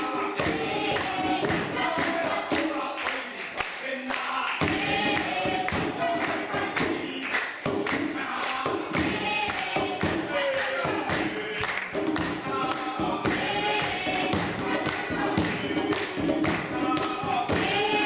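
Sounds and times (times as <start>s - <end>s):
steady thumping beat: 0.0s - 2.8s, 4.6s - 18.0s
group of voices singing: 0.0s - 18.0s.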